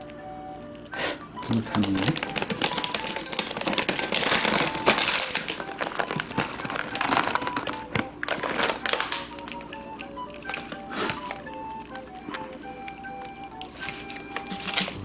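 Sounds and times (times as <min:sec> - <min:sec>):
cat crunching treats: 0:00.0 - 0:15.0.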